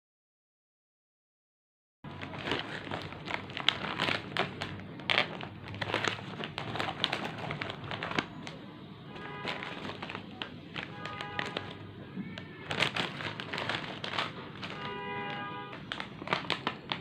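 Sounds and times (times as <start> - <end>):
plastic packets crinkling: 2.1 - 17.0.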